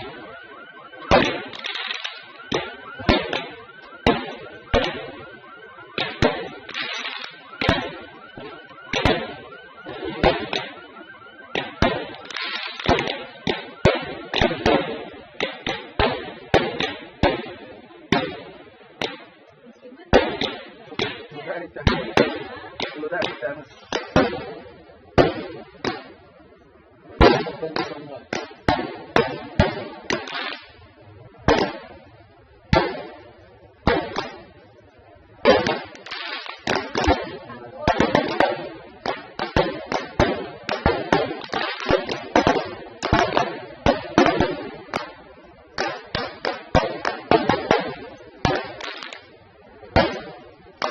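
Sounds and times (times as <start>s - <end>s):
fireworks cracks and pops: 0.0s - 26.4s, 27.0s - 50.9s
fireworks bangs: 0.0s - 50.9s.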